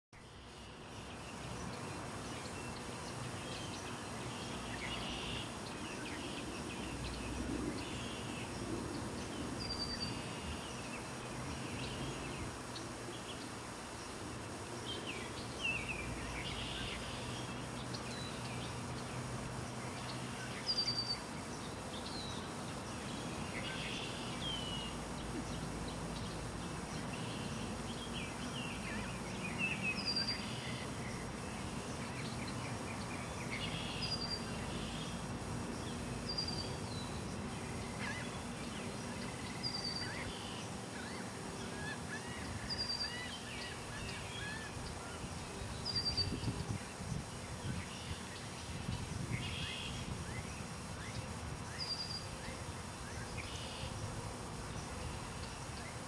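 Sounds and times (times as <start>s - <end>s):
steady outdoor noise: 0.1s - 56.0s.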